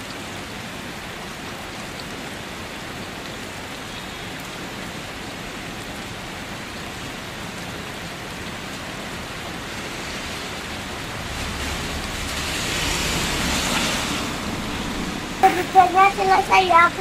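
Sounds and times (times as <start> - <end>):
rain on concrete: 0.0 - 17.0.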